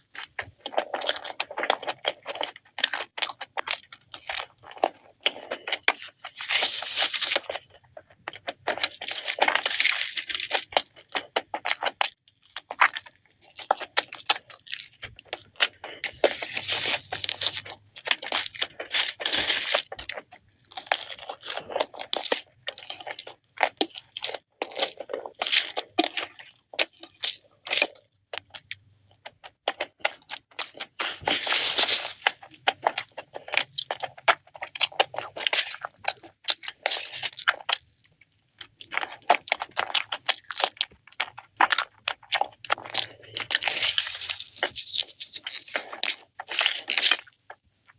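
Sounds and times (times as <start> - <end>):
crunching and chewing food: 0.0 - 47.9.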